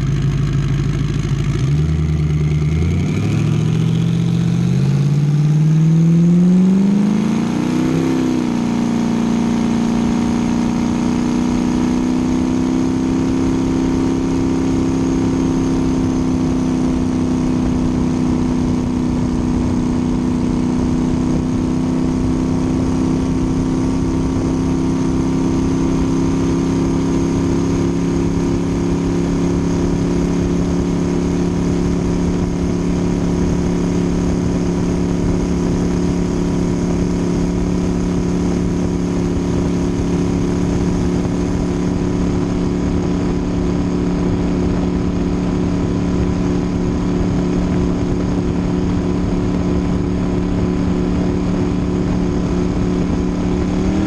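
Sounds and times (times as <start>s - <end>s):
boat engine cruising: 0.0s - 54.0s
rush of wind and water: 6.6s - 54.0s.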